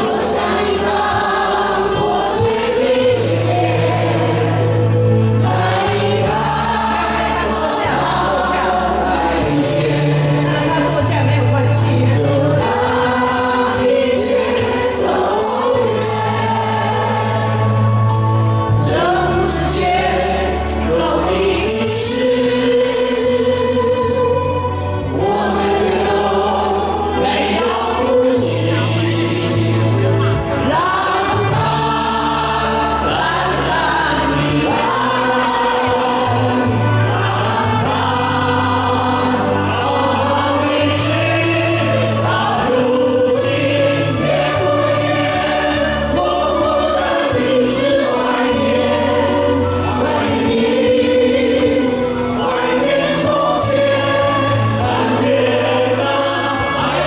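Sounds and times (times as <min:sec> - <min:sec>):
band accompaniment: 0:00.0 - 0:57.0
many voices singing together: 0:00.0 - 0:57.0.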